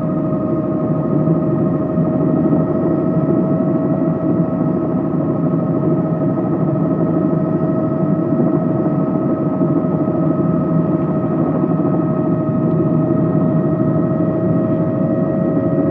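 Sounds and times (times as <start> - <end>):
constant high whine: 0.0 - 15.9
helicopter engine and rotor drone: 0.0 - 15.9.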